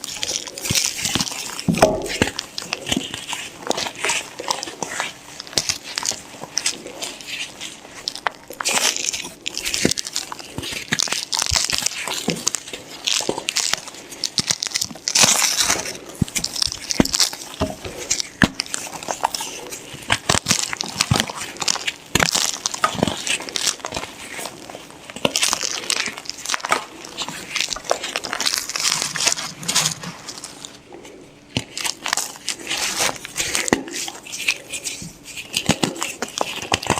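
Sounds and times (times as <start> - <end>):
chalk crunching and snapping: 0.0 - 30.8, 31.6 - 36.9.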